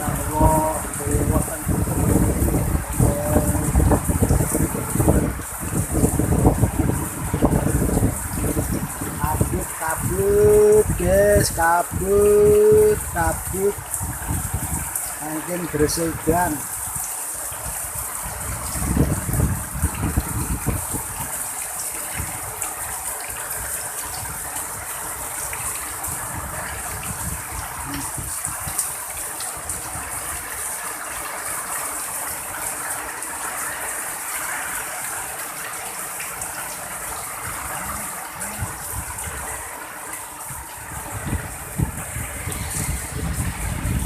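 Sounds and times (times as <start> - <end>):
wind buffeting the microphone: 0.0 - 31.8, 36.3 - 44.0
heavy rain pouring: 0.0 - 44.0.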